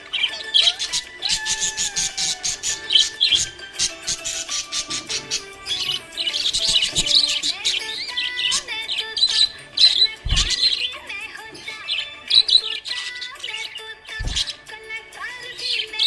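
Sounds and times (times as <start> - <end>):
background music: 0.0 - 16.0
parrots chirping and warbling: 0.0 - 16.0.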